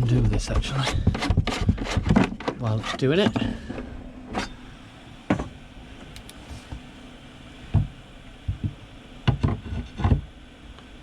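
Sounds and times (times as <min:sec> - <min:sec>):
heater blower fan running: 0:00.0 - 0:11.0.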